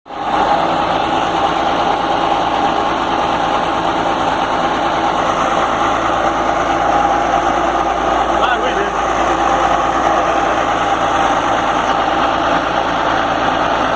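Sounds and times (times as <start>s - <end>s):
diesel air compressor running: 0.1s - 13.9s.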